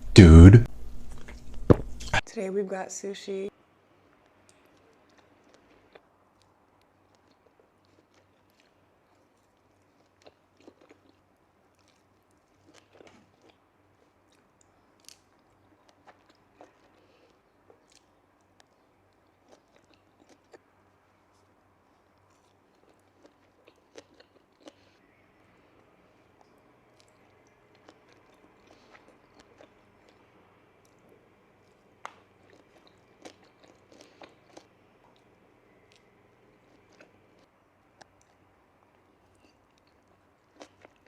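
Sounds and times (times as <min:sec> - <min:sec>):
quiet chewing: 0:04.0 - 0:41.0.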